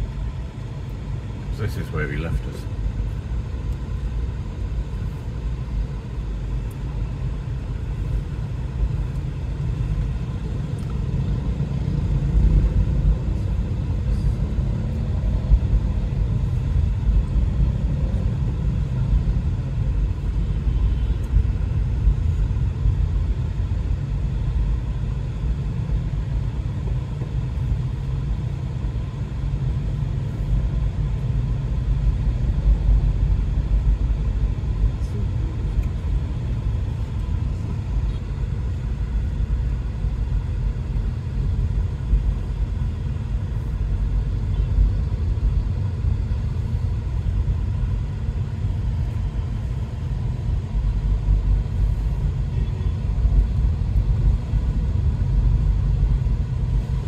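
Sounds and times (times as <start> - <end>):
car rumble from inside cabin: 0.0 - 57.0.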